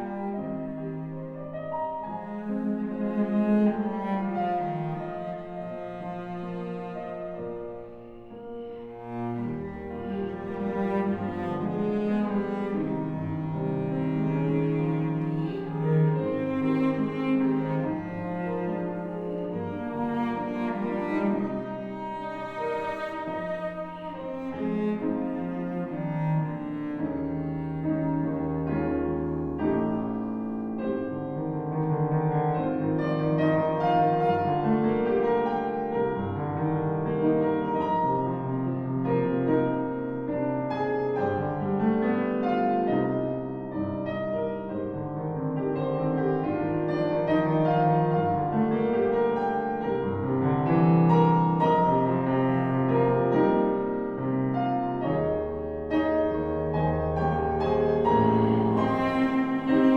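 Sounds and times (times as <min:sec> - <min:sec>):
classical chamber music with piano: 0:00.0 - 0:59.9.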